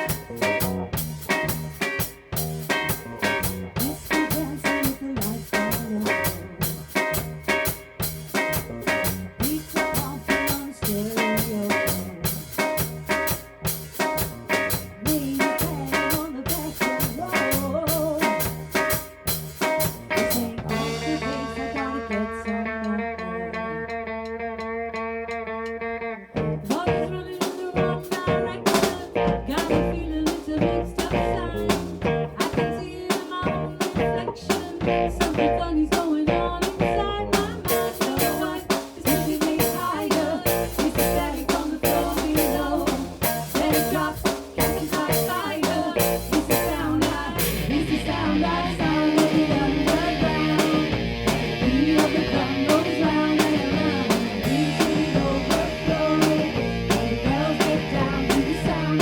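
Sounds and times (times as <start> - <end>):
drum kit snare backbeat: 0.0 - 21.3, 26.4 - 59.0
band music with guitar: 0.0 - 59.0.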